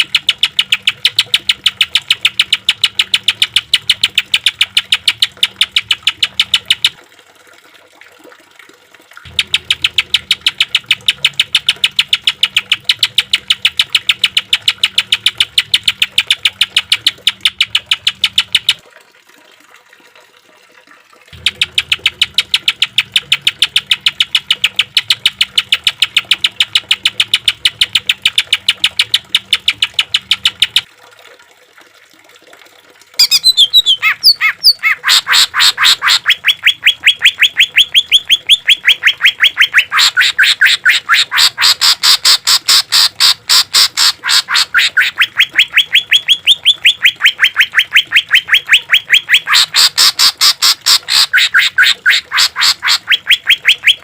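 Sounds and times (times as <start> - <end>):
bird calling rapid harsh notes: 0.0 - 7.0, 9.2 - 18.8, 21.4 - 30.9, 33.2 - 54.0.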